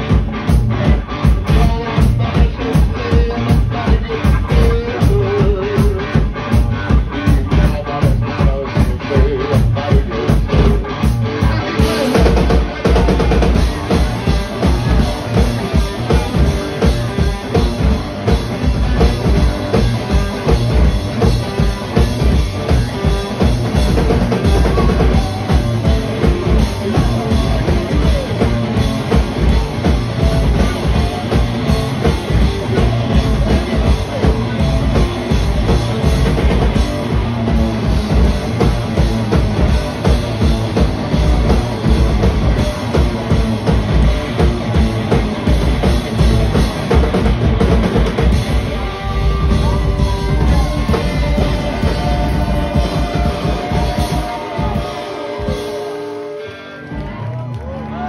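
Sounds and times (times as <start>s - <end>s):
drum kit pounding: 0.0s - 58.0s
live blues-rock band playing: 0.0s - 58.0s.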